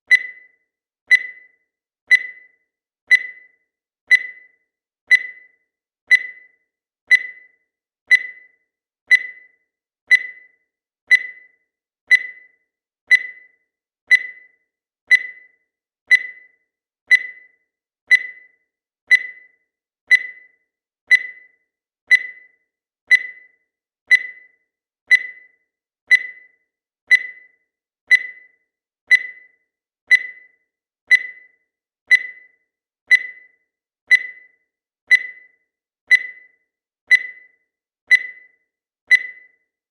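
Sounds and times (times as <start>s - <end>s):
digital timer beeping: 0.0s - 39.9s.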